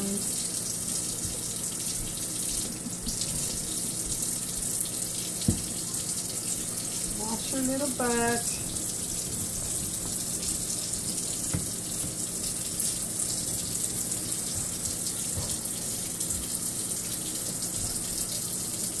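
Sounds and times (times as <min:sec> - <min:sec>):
faucet water splashing into sink: 0:00.0 - 0:19.0.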